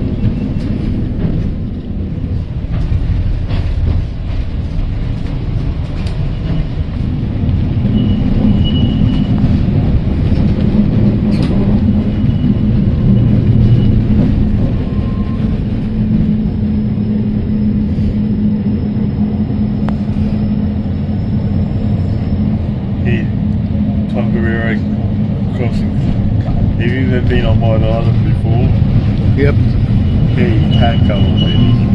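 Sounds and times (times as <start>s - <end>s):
tram motor hum: 0.0s - 31.9s
tram wheels rumbling on rail: 0.0s - 31.9s.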